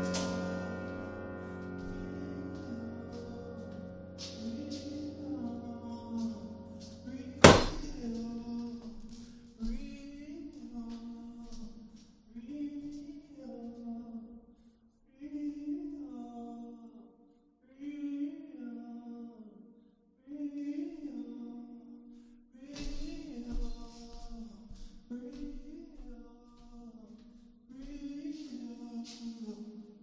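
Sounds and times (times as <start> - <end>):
wordless chant-like singing: 1.8 - 14.4, 17.7 - 22.0, 22.6 - 30.0.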